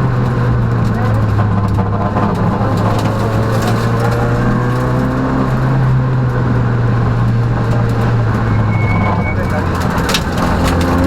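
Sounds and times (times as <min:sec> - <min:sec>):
rally car engine from inside: 0:00.0 - 0:11.0.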